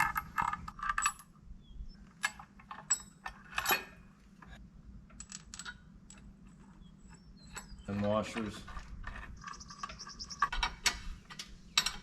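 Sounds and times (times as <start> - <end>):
metal washers and nuts clinking: 0.0 - 1.3, 2.1 - 12.0.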